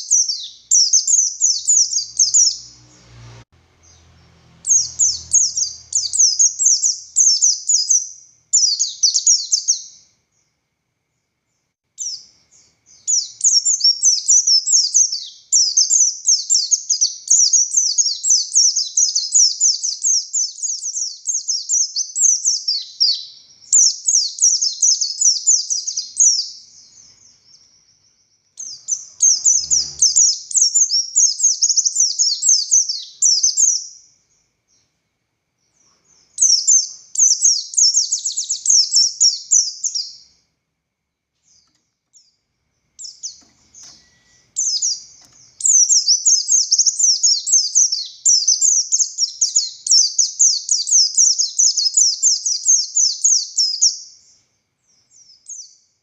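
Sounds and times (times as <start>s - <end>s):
bird twittering song: 0.0s - 34.9s, 35.6s - 40.4s, 41.4s - 56.0s.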